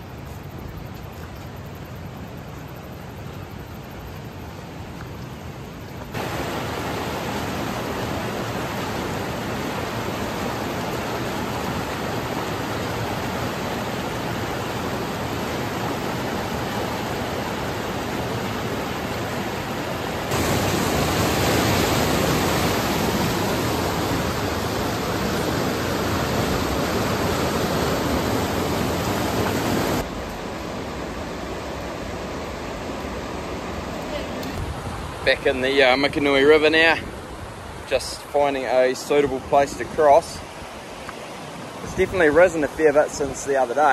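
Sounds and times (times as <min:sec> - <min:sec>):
river rushing through rapids: 0:01.6 - 0:43.9.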